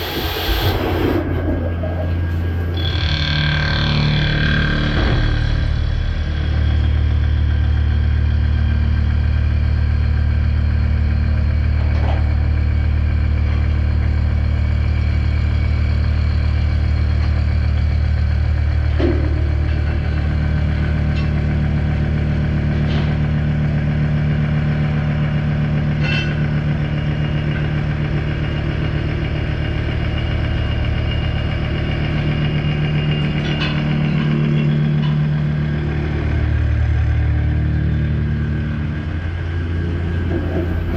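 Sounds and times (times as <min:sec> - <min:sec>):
machining center humming: 0:00.0 - 0:40.9.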